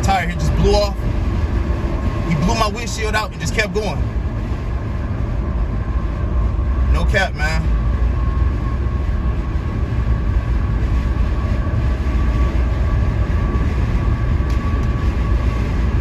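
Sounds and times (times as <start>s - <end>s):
car road and wind noise: 0.0s - 16.0s
faint steady whine: 0.0s - 16.0s.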